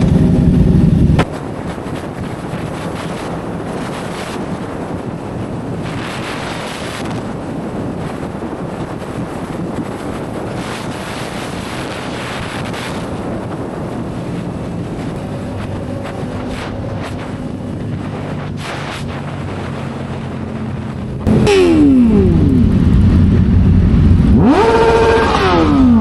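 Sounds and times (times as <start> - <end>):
engine and road noise: 0.0 - 26.0
wind buffeting microphone: 0.0 - 26.0.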